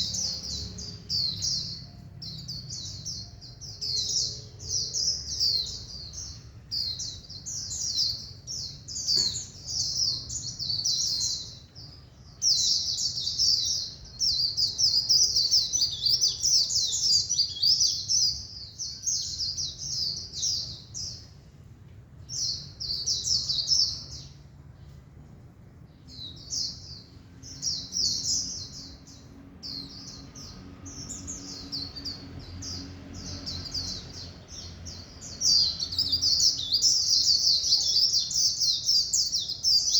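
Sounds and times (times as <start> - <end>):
bird twittering song: 0.0 - 21.5, 22.2 - 25.1, 25.8 - 39.9.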